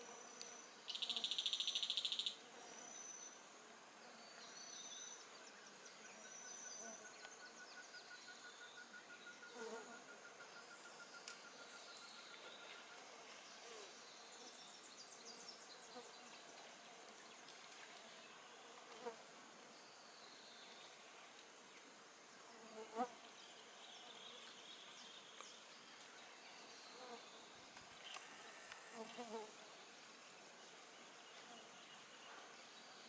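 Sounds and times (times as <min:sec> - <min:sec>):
insect buzzing and chirping: 0:00.0 - 0:33.0.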